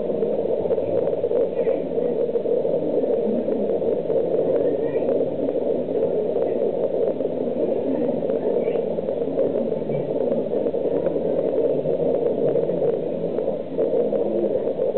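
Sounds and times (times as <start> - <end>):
steady rushing background noise: 0.0 - 14.9.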